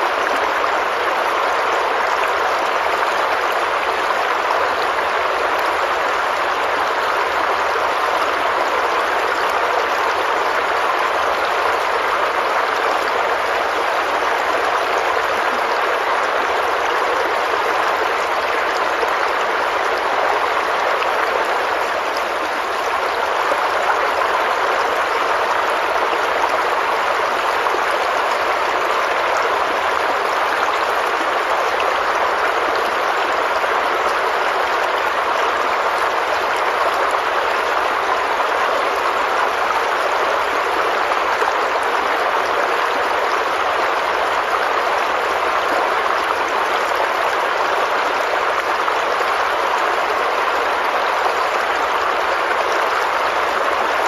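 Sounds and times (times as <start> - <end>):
stream splashing over stones: 0.0 - 54.0.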